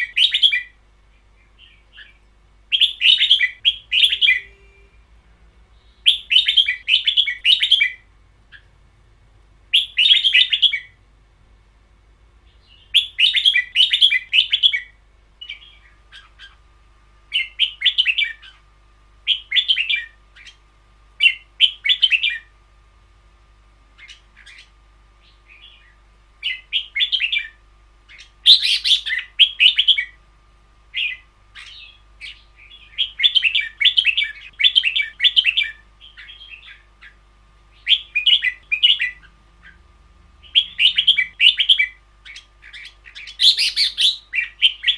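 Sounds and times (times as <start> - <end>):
bird chattering song: 0.0 - 4.9, 5.7 - 8.8, 9.7 - 11.0, 12.5 - 16.7, 17.3 - 22.5, 24.0 - 30.2, 30.9 - 44.9.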